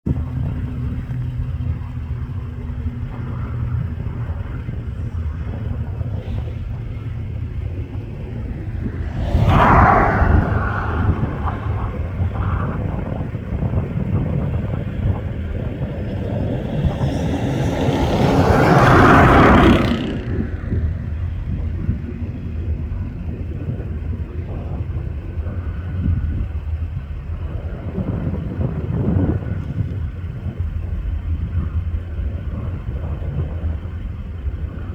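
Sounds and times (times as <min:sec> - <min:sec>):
helicopter rotor and engine rumble: 0:00.1 - 0:34.9.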